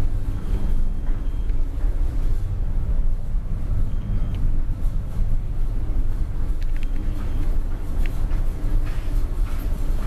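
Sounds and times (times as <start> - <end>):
ship engine rumble: 0.0 - 10.0.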